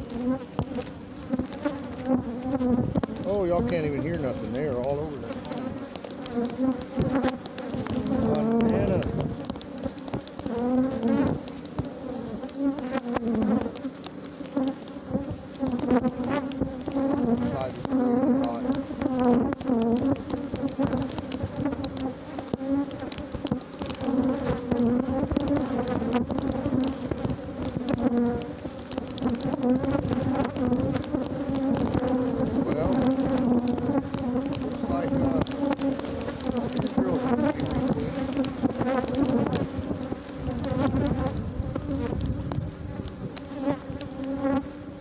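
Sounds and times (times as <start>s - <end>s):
bees buzzing: 0.0s - 45.0s.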